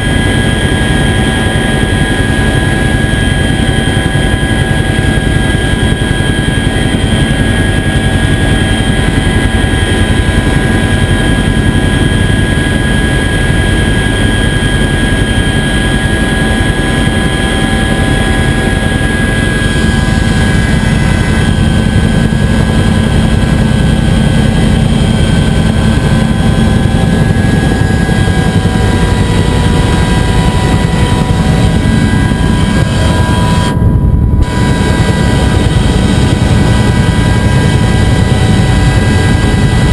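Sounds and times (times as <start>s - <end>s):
helicopter rotor and engine noise: 0.0s - 39.9s
high turbine whine: 0.0s - 39.9s.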